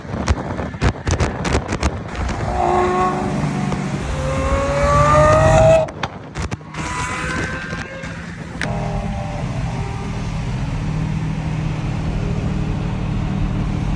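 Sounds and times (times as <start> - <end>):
exhaust crackles and pops: 0.0 - 13.9
engine accelerating hard: 1.8 - 13.9.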